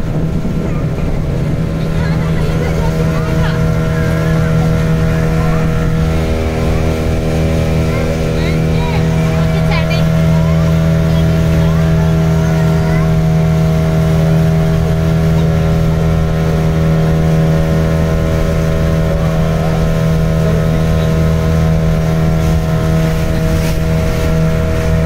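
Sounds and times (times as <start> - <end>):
motorboat engine droning: 0.0 - 25.0.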